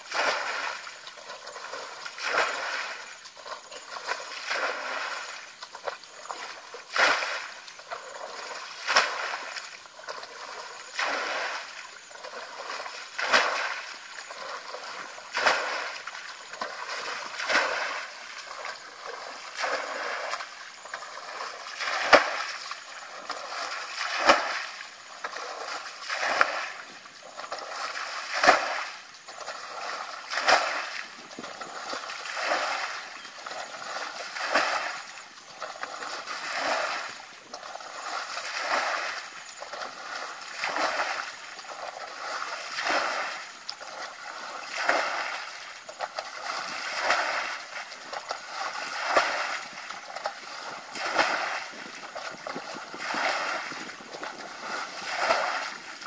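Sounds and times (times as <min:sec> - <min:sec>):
bucket flinging water splashing: 0:00.0 - 0:56.0
water slapping as it lands: 0:00.0 - 0:56.0.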